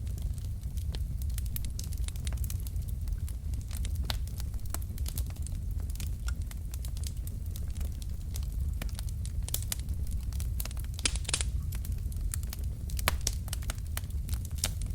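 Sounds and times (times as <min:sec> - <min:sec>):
low rumble of flame: 0:00.0 - 0:14.9
wood crackling and popping: 0:00.0 - 0:14.9.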